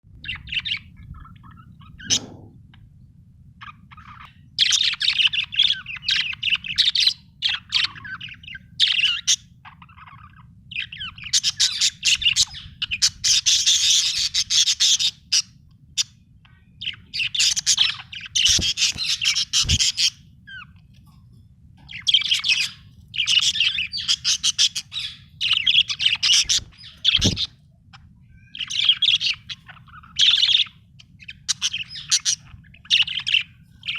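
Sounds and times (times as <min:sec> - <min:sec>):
faint low hum: 0:00.1 - 0:33.9
budgerigar chirping and warbling: 0:00.2 - 0:02.6, 0:03.6 - 0:16.2, 0:16.8 - 0:20.8, 0:21.9 - 0:33.9.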